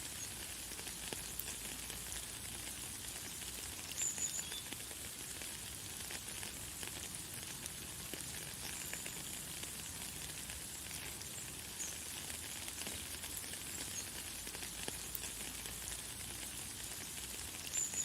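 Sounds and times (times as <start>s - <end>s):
light rain hissing: 0.0s - 18.0s.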